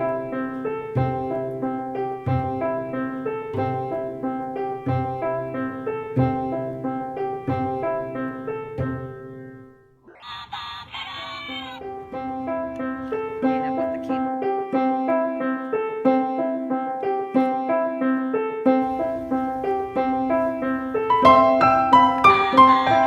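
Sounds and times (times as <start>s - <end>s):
piano music: 0.0s - 10.0s, 11.8s - 23.0s.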